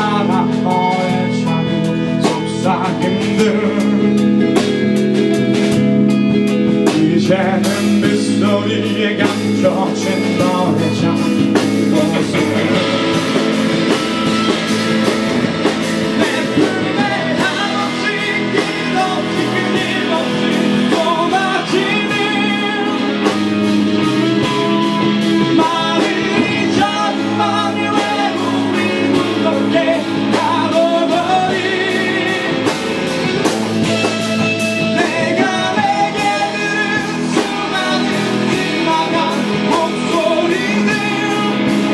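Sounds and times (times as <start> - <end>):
person singing: 0.0 - 5.1, 6.8 - 41.9
electric guitar through amplifier: 0.0 - 41.9.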